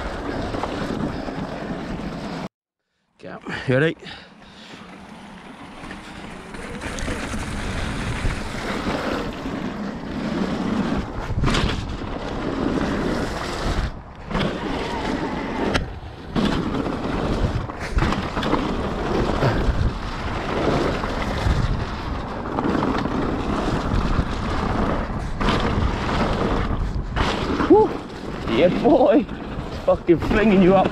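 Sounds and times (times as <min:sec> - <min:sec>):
bike rattling: 0:00.0 - 0:02.5, 0:03.5 - 0:30.9
tyres rolling on dirt: 0:00.0 - 0:02.5, 0:03.3 - 0:30.9
wind rushing over microphone: 0:06.0 - 0:30.9.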